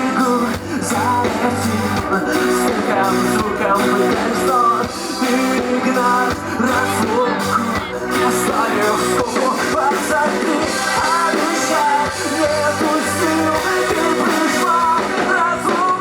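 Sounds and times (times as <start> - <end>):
amplified guitars: 0.0 - 16.0
person singing: 0.0 - 16.0.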